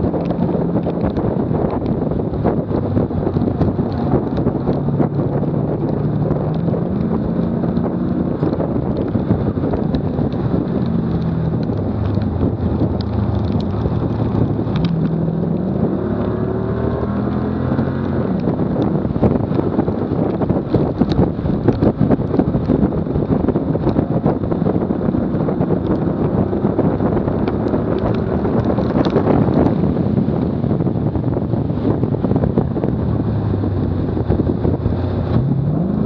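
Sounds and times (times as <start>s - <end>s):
tyre and road noise: 0.0s - 36.0s
wind buffeting microphone: 0.0s - 36.0s.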